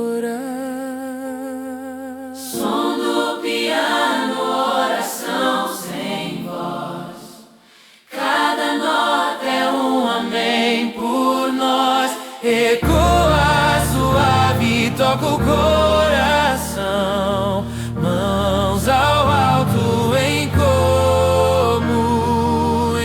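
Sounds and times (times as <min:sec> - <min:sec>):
gospel choir singing: 0:02.3 - 0:23.0.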